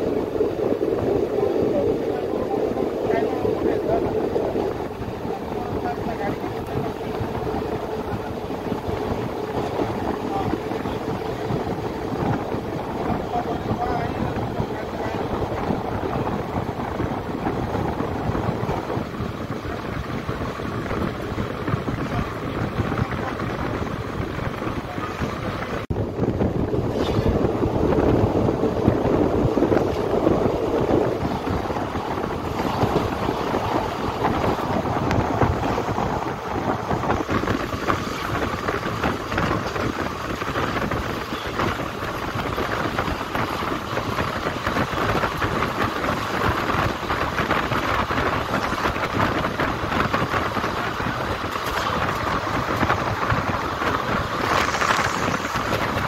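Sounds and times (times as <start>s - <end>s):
train wheels rushing on rail: 0.0s - 56.0s
wind on microphone: 0.0s - 56.0s.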